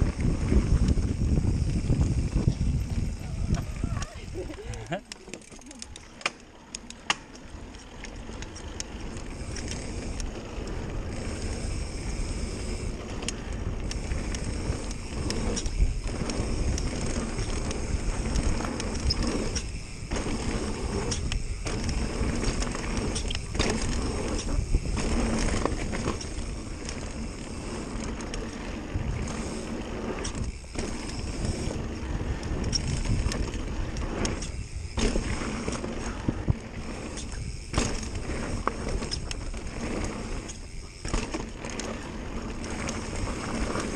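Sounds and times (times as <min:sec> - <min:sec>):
bike frame rattling: 0:00.0 - 0:43.9
bike tyres rumbling over dirt: 0:00.0 - 0:43.9.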